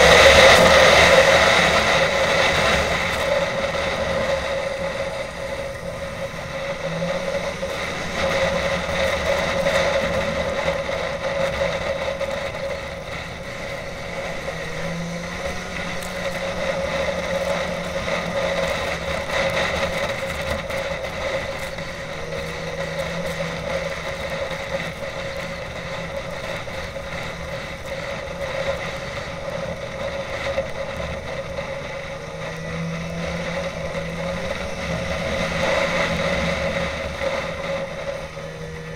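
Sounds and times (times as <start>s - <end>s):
snowmobile engine drone: 0.0s - 38.9s.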